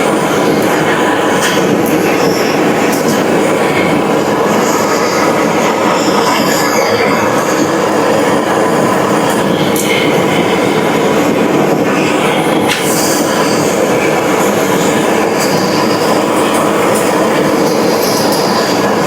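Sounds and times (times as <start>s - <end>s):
loud machinery noise: 0.0s - 19.0s.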